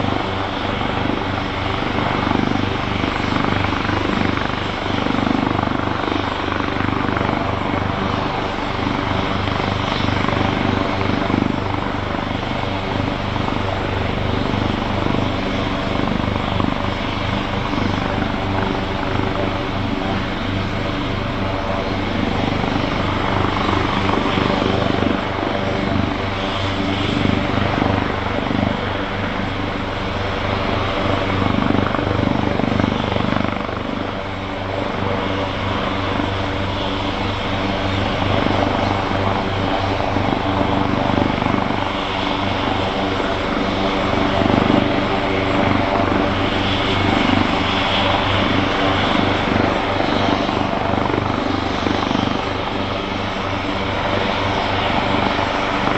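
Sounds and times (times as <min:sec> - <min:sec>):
helicopter rotor beat: 0:00.0 - 0:55.9
helicopter turbine whine: 0:00.0 - 0:55.9.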